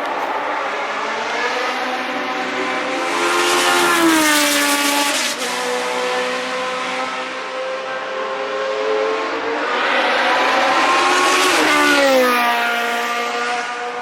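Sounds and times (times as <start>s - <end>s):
race car engine passing: 0.0s - 14.0s.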